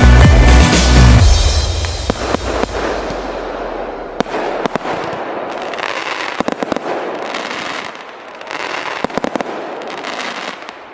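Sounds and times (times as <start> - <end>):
fireworks crackling: 0.8 - 10.9
sharp fireworks pops: 1.5 - 10.9.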